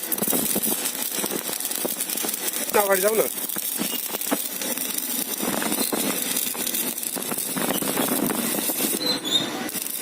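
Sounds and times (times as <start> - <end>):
welding arc crackling: 0.0 - 10.0.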